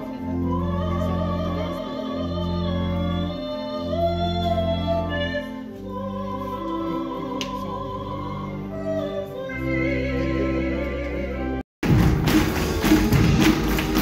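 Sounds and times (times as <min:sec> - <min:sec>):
string ensemble playing slow piece: 0:00.0 - 0:14.0.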